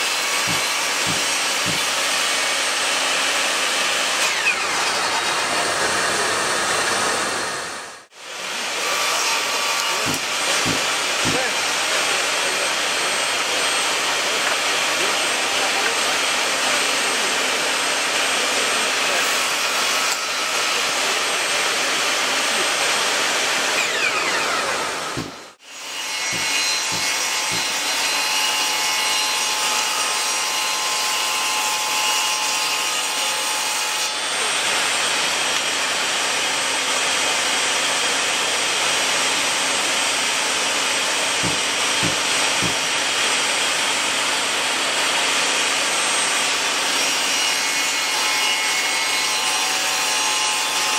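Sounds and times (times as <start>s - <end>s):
table saw cutting wood: 0.0s - 50.9s.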